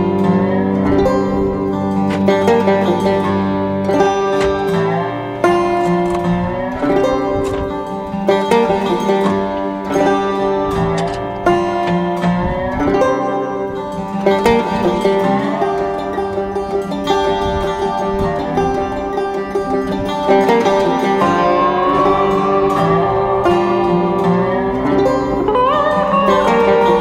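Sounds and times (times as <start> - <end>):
plucked string music: 0.0 - 27.0.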